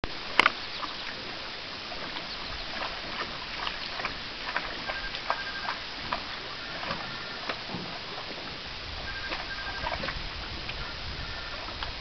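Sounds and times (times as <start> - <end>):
dog paws splashing in water: 0.3 - 12.0.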